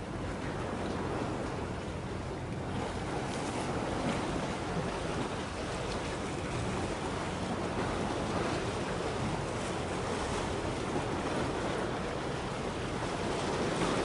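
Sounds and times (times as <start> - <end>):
harbour water washing: 0.0 - 14.0
wind buffeting microphone: 0.0 - 14.0.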